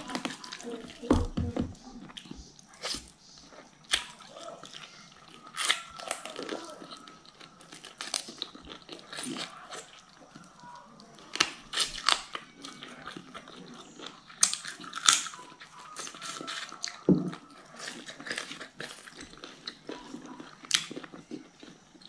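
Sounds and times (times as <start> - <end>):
wet chewing and crunchy bites: 0.0 - 22.0.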